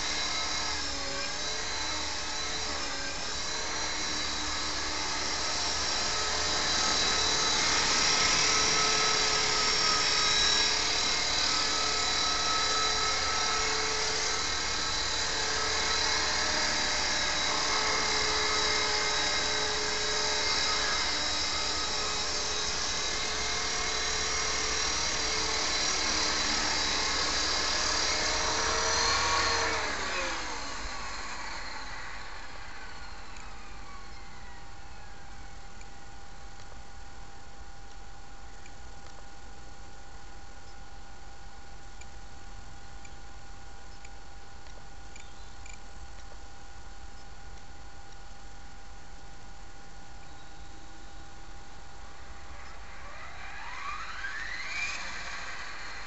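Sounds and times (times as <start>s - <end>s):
model helicopter rotor whine: 0.0s - 38.9s, 49.4s - 56.0s.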